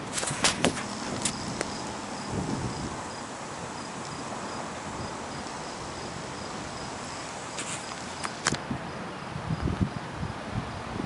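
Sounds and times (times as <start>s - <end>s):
cricket chirping: 0.0s - 9.8s
steady background hiss: 0.0s - 11.0s.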